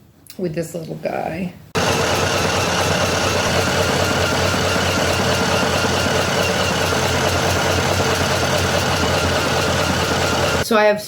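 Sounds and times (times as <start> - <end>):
sewing machine stitching: 1.8 - 10.6.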